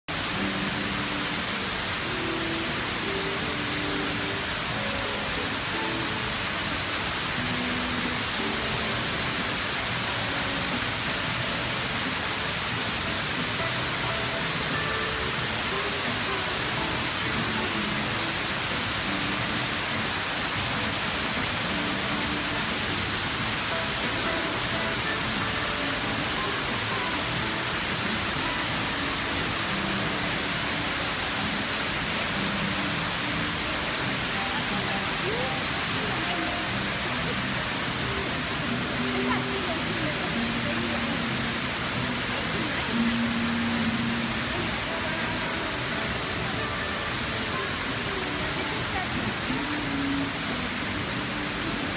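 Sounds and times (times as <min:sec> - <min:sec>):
indoor waterfall rushing: 0:00.1 - 0:51.9.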